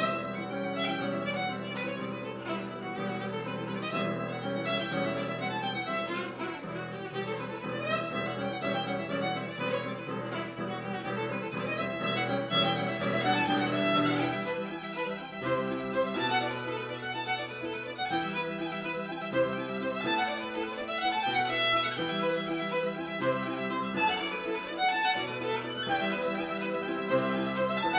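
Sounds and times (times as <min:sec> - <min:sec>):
piano accompaniment: 0:00.0 - 0:27.9
violin melody: 0:00.0 - 0:27.9.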